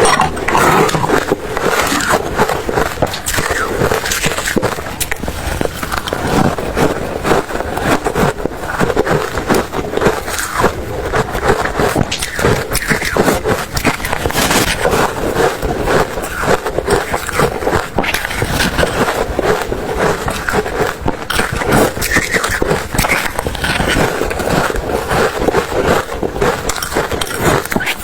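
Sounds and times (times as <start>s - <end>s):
ice being chewed: 0.0s - 28.0s.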